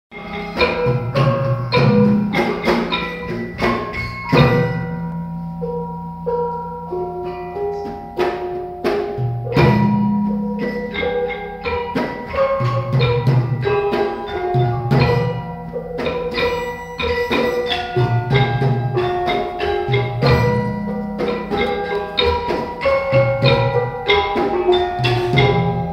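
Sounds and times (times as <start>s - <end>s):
metallophones struck in melody: 0.1s - 25.9s.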